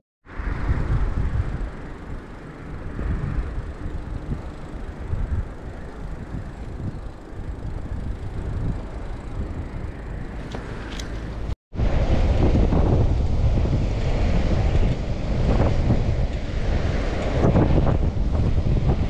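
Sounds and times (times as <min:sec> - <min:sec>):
bicycle rumbling on road: 0:00.3 - 0:19.0
wind on microphone: 0:00.3 - 0:19.0.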